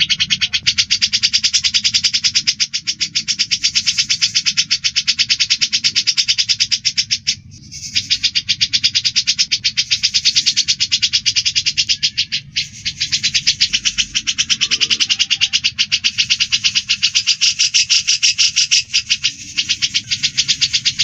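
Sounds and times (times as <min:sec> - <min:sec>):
harsh bird chattering: 0:00.0 - 0:21.0.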